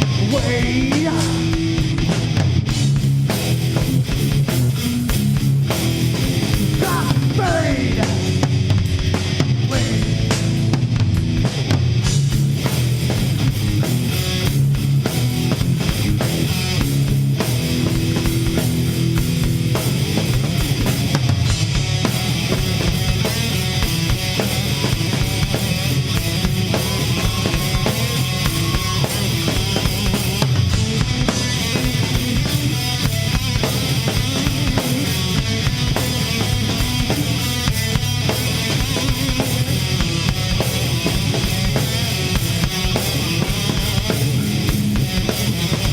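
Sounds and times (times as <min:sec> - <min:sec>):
bass guitar: 0:00.0 - 0:45.9
distorted electric guitar: 0:00.0 - 0:45.9
drum kit: 0:00.0 - 0:45.9.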